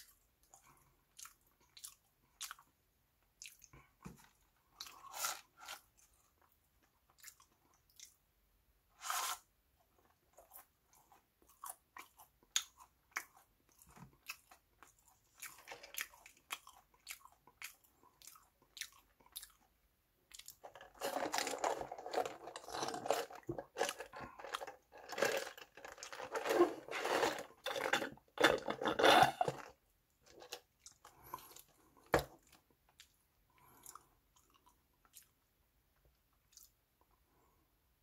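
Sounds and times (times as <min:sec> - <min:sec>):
chewing and crunching food: 0:00.0 - 0:08.4, 0:09.8 - 0:37.6.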